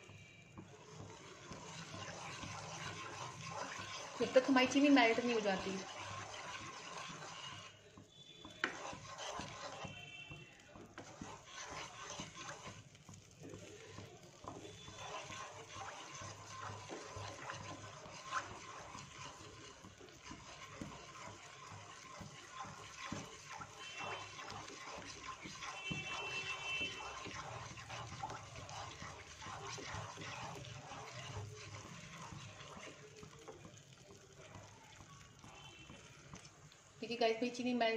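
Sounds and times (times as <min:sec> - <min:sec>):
milk simmering with faint bubbling: 0:00.0 - 0:37.9.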